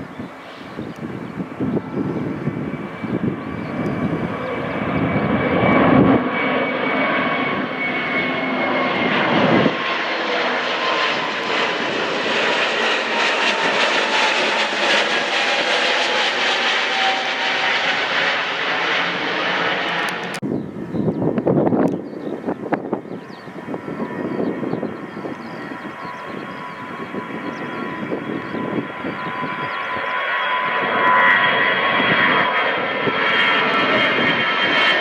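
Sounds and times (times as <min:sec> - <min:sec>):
jet engines passing: 0:00.0 - 0:35.0.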